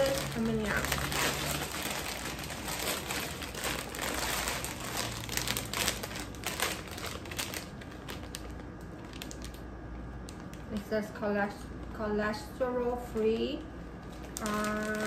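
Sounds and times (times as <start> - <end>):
plastic snack bag crinkling: 0.0 - 11.9, 13.0 - 15.0.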